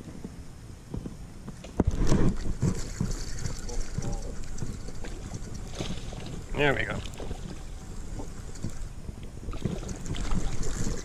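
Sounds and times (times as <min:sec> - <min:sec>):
knocks and rustles in plastic kayak: 0:00.0 - 0:11.0
wind rumbling on microphone: 0:00.0 - 0:11.0.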